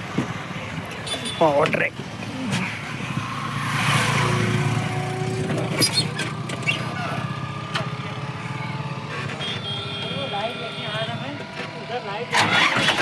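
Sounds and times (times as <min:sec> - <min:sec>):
tractor diesel engine running: 0:02.0 - 0:13.0.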